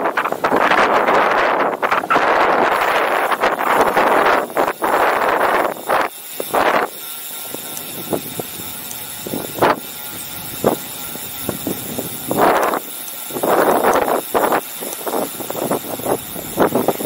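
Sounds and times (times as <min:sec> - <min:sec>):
bicycle knocks and rattles: 0:00.0 - 0:17.0
wind buffeting microphone: 0:00.0 - 0:17.0.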